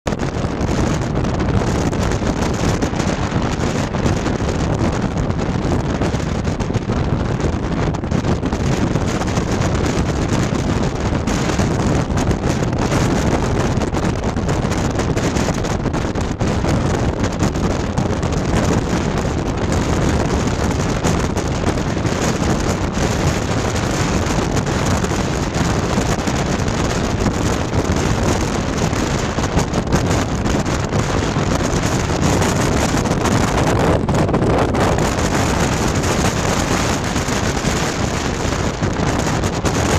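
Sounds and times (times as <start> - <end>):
moving car rumble: 0.0 - 39.9
wind buffeting microphone: 0.0 - 39.9.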